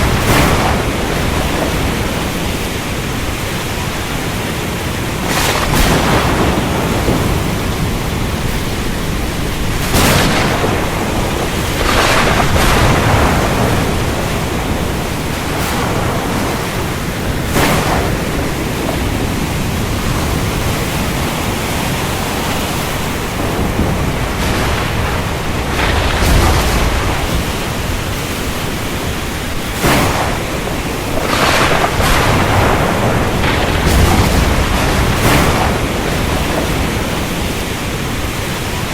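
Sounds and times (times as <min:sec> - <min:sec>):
deep thunder rumble: 0:00.0 - 0:38.9
steady rain hiss: 0:00.0 - 0:38.9
thunder cracks: 0:00.0 - 0:38.9.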